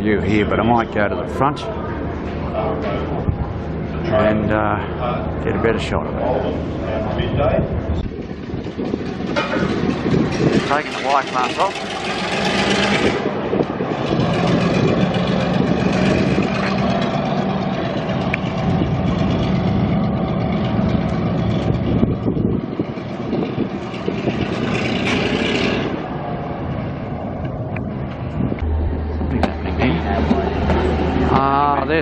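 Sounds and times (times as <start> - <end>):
locomotive diesel engine droning: 0.0 - 32.0.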